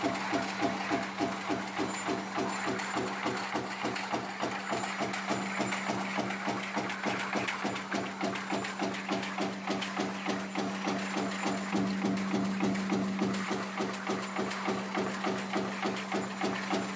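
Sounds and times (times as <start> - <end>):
repeated mechanical strokes: 0.0 - 16.9.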